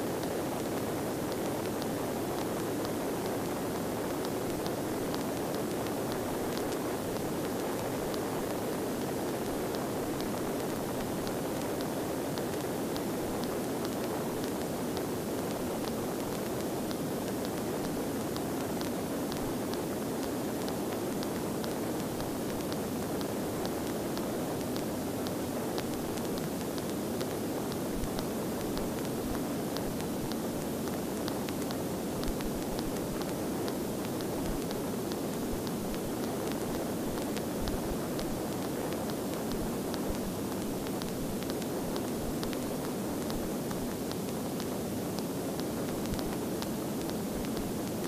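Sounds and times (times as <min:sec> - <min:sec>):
faint ticks: 0:00.1 - 0:48.0.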